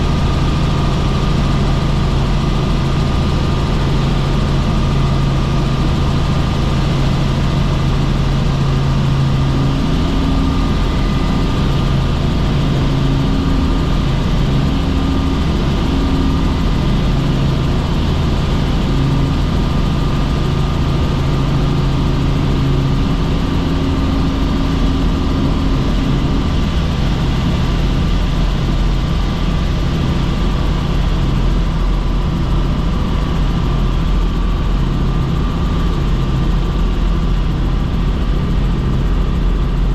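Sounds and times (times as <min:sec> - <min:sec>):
constant whine: 0:00.0 - 0:39.9
helicopter engine and rotor drone: 0:00.0 - 0:39.9.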